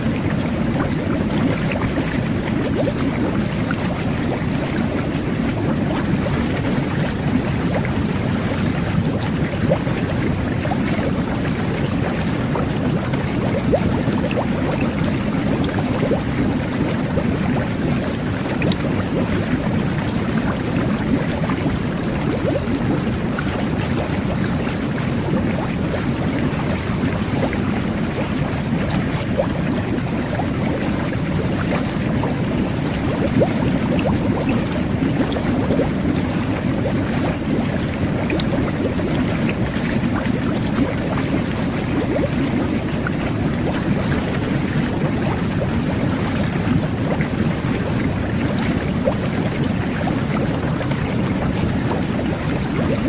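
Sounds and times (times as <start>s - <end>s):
jet bath water bubbling: 0.0s - 53.0s.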